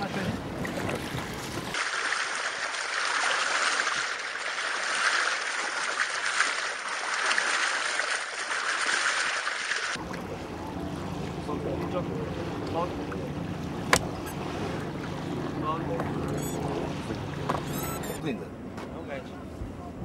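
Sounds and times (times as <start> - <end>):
water rushing along a boat bow: 0.0 - 18.4.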